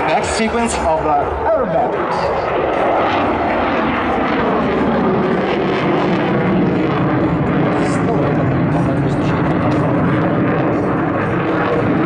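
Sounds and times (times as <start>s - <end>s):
jet engines in flight: 0.0s - 12.0s.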